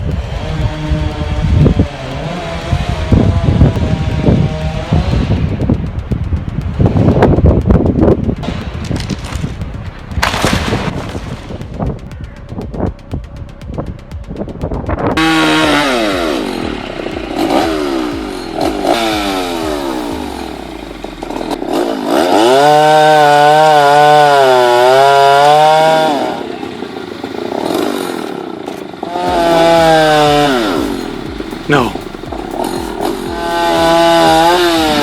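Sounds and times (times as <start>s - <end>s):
chainsaw revving: 0.0s - 11.6s, 15.2s - 35.0s.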